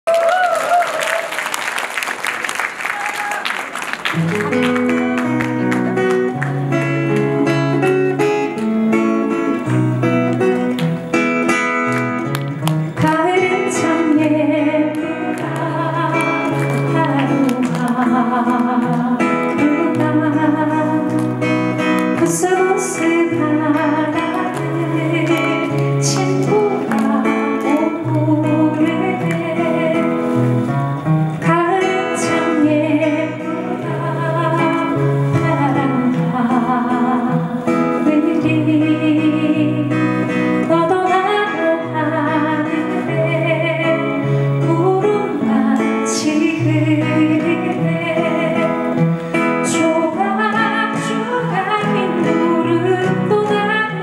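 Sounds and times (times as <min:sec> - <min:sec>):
acoustic guitar strumming: 0:04.1 - 0:54.0
woman singing: 0:06.0 - 0:10.8, 0:12.9 - 0:54.0.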